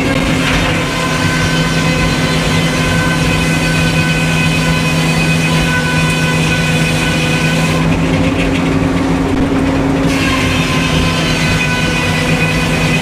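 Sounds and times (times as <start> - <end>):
sawmill engine drone: 0.0 - 13.0.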